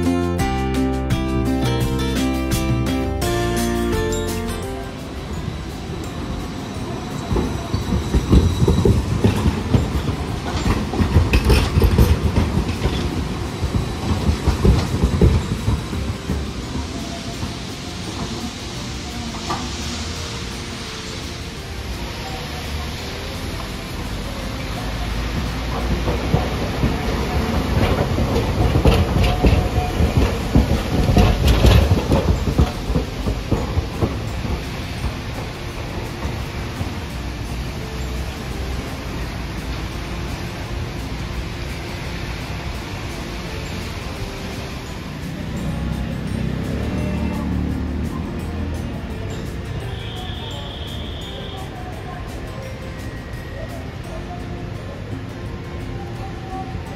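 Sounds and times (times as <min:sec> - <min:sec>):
low rumble of streetcar: 0:00.0 - 0:56.9
tram wheels clattering on track: 0:00.0 - 0:56.9.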